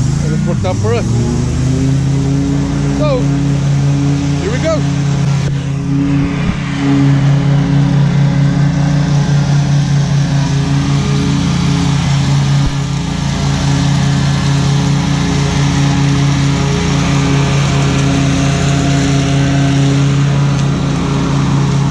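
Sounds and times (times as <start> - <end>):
lawn mower engine running: 0.0 - 21.9.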